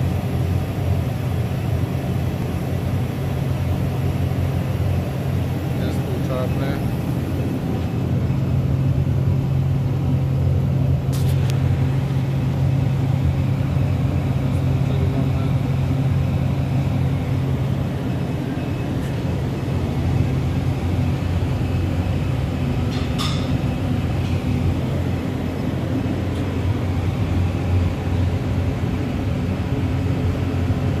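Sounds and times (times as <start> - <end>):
printing press humming: 0.0 - 31.0.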